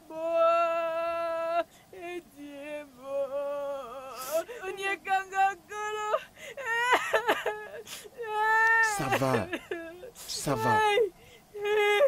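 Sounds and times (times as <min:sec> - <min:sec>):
woman wailing and sobbing: 0:00.2 - 0:12.0.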